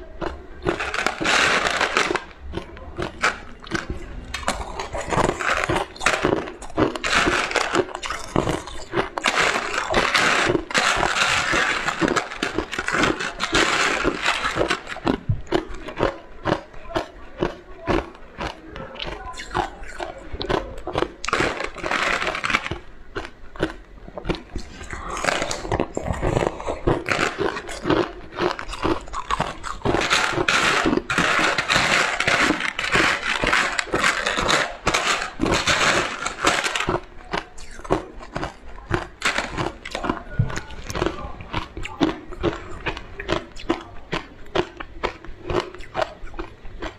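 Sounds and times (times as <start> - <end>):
person chewing crunchy food: 0.0 - 46.9.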